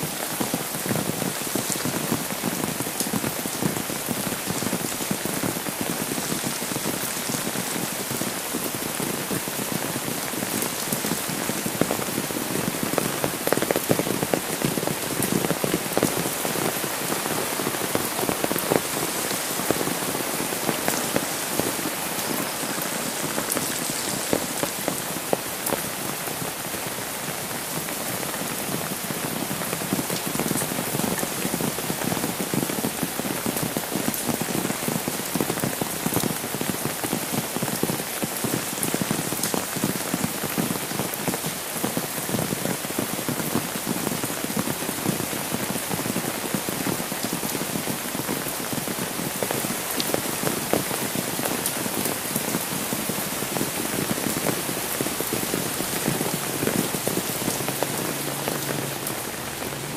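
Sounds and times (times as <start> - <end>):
steady rain falling: 0.0 - 59.9
raindrops tapping on umbrella: 0.1 - 59.9.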